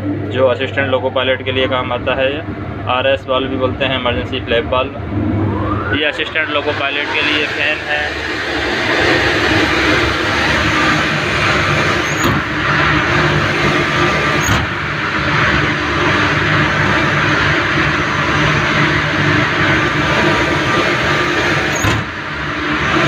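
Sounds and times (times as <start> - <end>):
locomotive cab machinery noise: 0.0 - 23.0.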